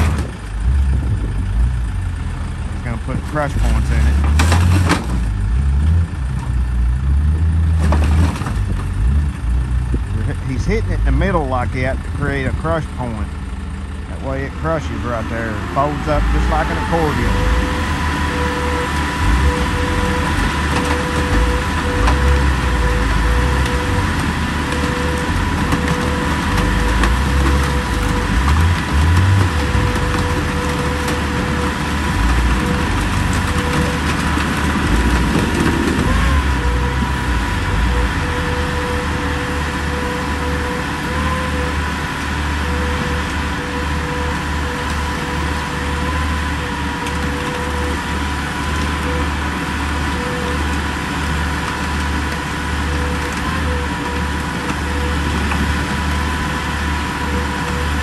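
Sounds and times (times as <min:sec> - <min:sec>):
heavy rumble: 0:00.0 - 0:58.0
hydraulic power unit humming: 0:00.0 - 0:58.0
metal crackling and crunching: 0:00.0 - 0:58.0.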